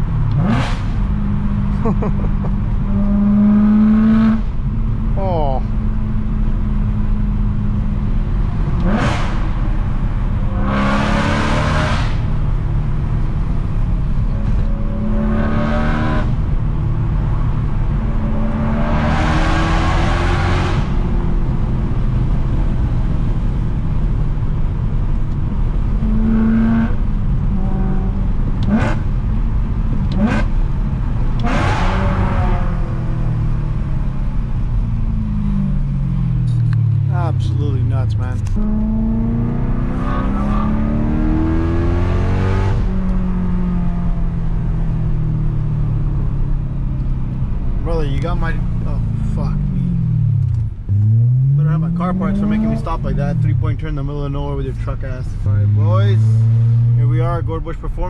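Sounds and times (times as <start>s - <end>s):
car exhaust drone with revving: 0.0s - 58.0s.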